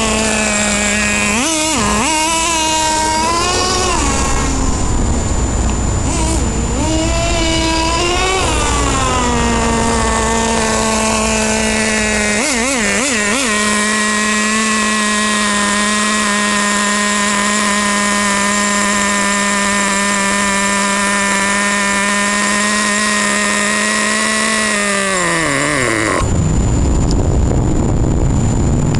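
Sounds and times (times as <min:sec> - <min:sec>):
small engine idling high pitch: 0:00.0 - 0:28.9.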